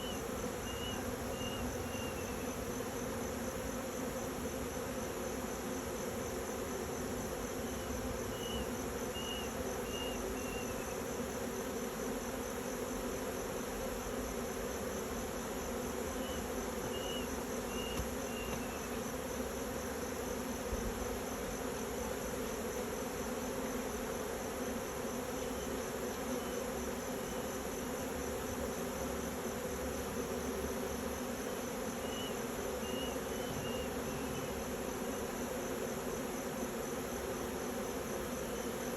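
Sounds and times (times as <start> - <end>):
bees buzzing: 0.0 - 38.9.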